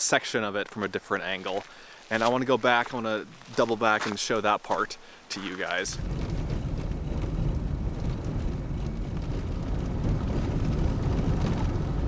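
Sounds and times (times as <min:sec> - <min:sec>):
car cabin rumble on dirt road: 0:00.6 - 0:12.0.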